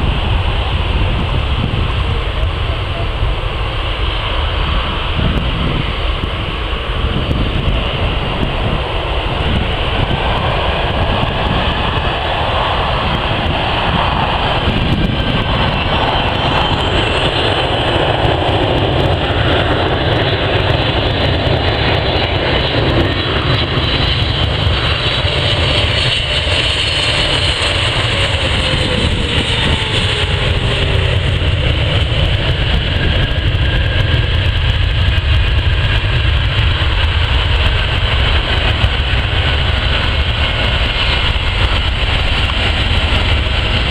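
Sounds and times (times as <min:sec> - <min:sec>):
aircraft passing with falling tone: 0:00.0 - 0:43.9
jet airliner engine noise: 0:00.0 - 0:43.9.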